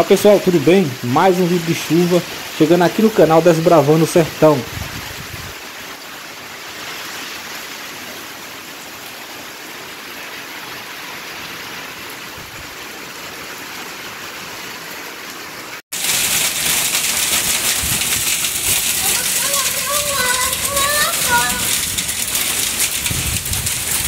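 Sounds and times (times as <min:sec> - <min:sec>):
downpour outside doorway: 0:00.0 - 0:24.0
rain falling: 0:00.0 - 0:24.0.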